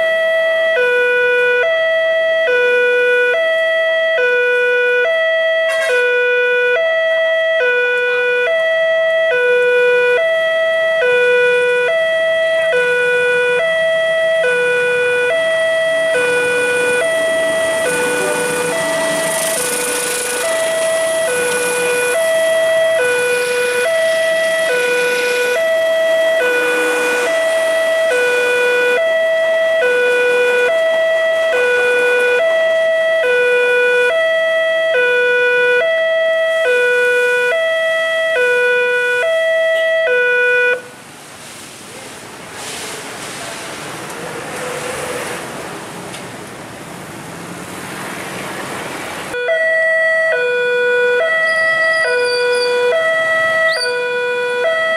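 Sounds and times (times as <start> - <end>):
level crossing two-tone alarm: 0.0 - 40.9, 49.3 - 54.9.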